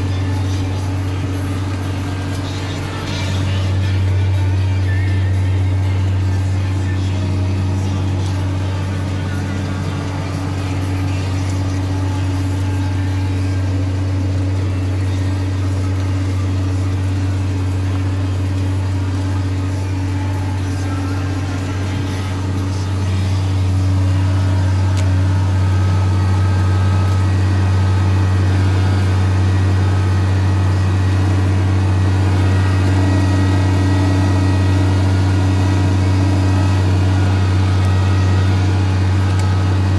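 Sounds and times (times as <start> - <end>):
tractor diesel engine: 0.0 - 39.9.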